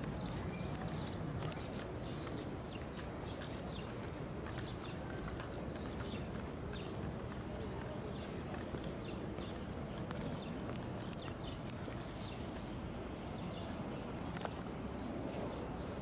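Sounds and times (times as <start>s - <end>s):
footsteps on stone steps: 0.0s - 16.0s.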